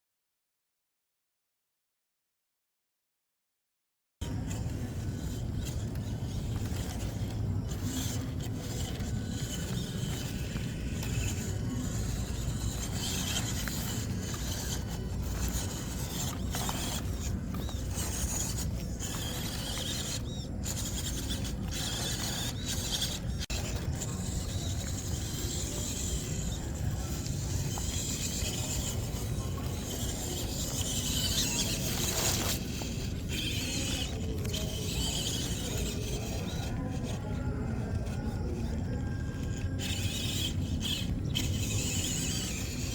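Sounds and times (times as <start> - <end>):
rc truck motor whining: 4.2 - 42.9.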